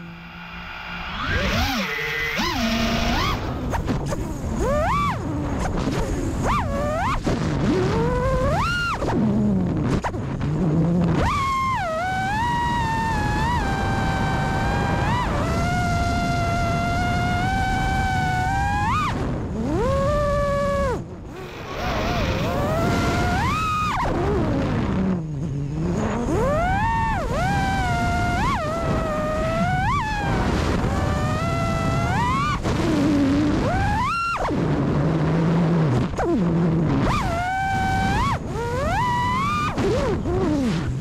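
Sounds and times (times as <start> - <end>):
drone motors whining: 0.0 - 41.0
wind rush on microphone: 0.0 - 41.0.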